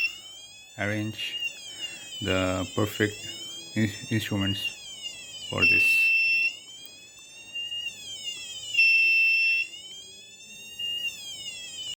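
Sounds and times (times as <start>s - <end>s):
buzzy electronic siren wailing: 0.0s - 12.0s.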